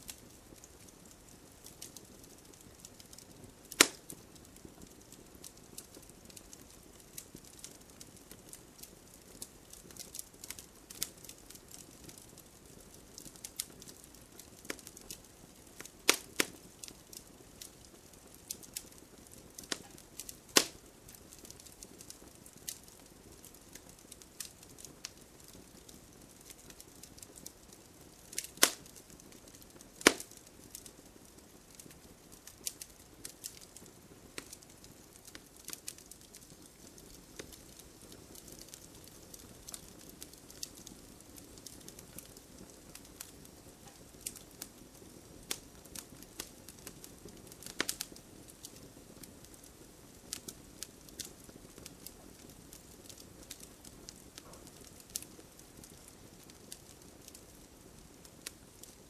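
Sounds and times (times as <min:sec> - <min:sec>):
campfire crackling: 0:00.0 - 0:59.0
loud pops of burning wood: 0:00.1 - 0:59.0.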